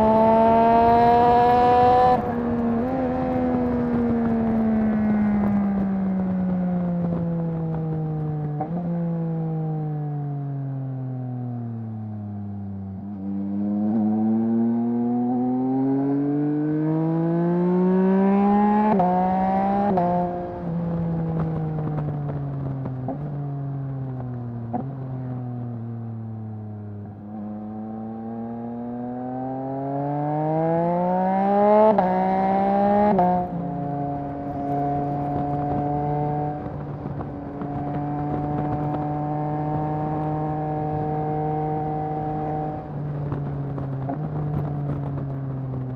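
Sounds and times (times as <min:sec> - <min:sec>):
motorcycle engine revving: 0:00.0 - 0:09.2, 0:12.4 - 0:45.9.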